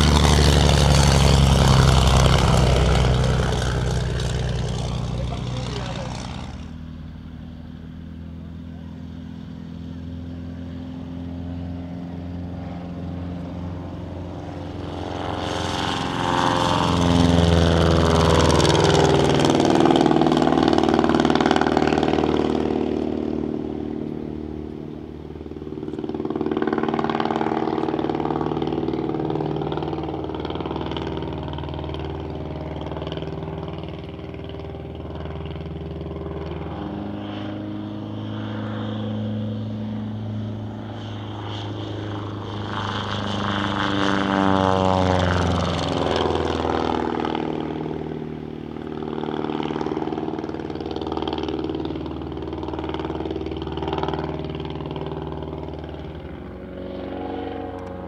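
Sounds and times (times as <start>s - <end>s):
propeller plane engine: 0.0s - 58.0s.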